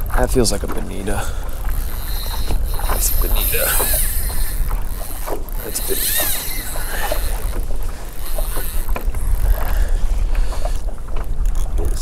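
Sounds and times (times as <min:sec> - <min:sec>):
water splashing against kayak hull: 0:00.0 - 0:12.0
wind buffeting microphone: 0:00.0 - 0:12.0.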